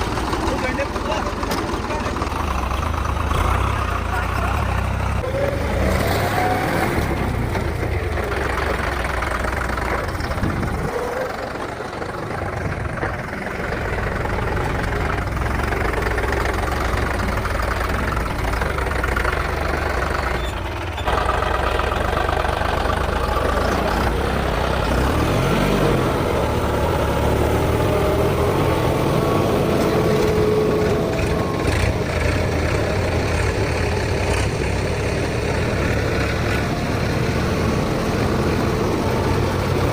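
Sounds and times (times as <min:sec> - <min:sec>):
tractor diesel engines running: 0:00.0 - 0:39.9.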